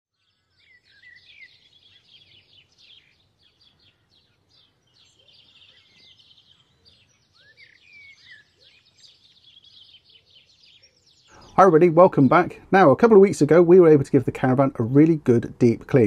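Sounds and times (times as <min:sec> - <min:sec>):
songbirds chirping and trilling: 0:00.1 - 0:16.0.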